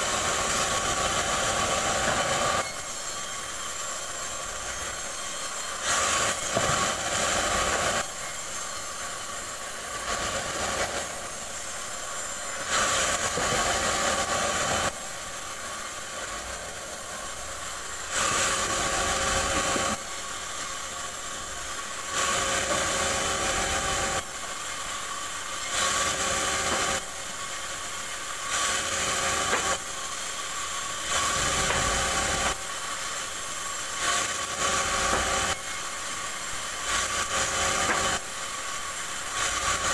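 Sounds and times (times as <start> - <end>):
saw blade cutting log: 0.0 - 39.9
sawmill whine: 0.0 - 39.9.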